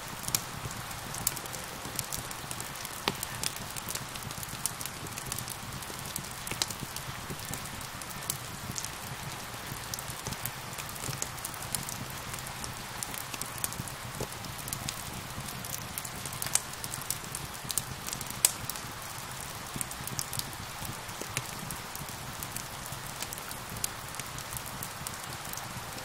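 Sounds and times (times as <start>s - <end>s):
rain hiss: 0.0s - 26.0s
wood fire crackling: 0.0s - 26.0s.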